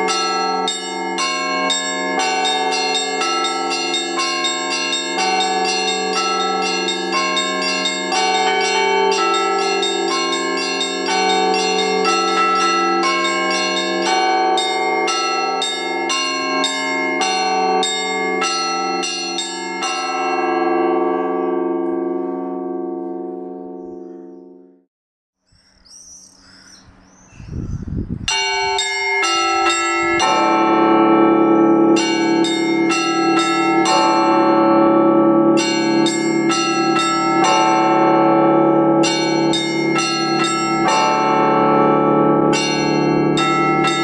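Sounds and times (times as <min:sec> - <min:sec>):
large bells ringing: 0:00.0 - 0:24.8, 0:28.3 - 0:44.0.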